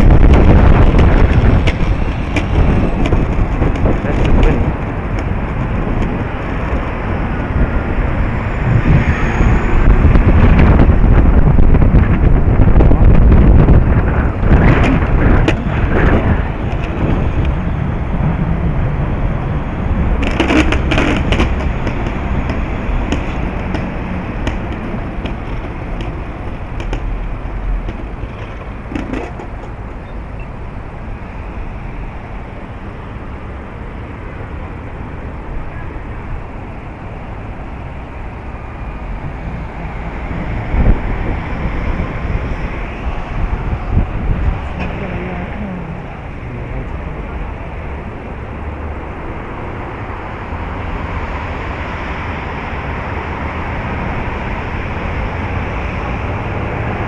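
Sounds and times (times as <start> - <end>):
vehicle noise rumble: 0.0 - 57.0
wind buffeting microphone: 0.0 - 57.0.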